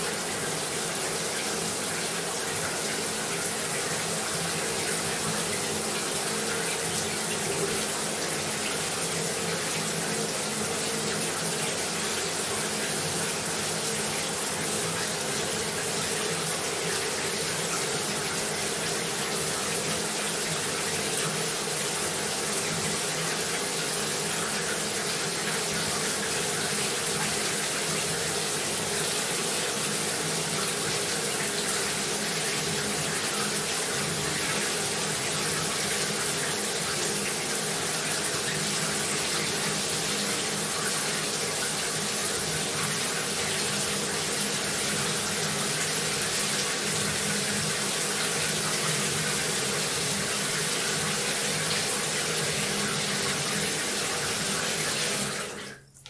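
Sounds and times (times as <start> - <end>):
shower spraying water: 0.0 - 56.0.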